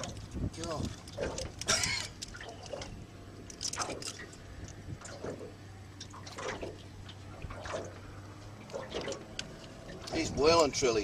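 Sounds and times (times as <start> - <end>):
low steady hum: 0.0 - 11.0
water splashes and drips: 0.0 - 11.0.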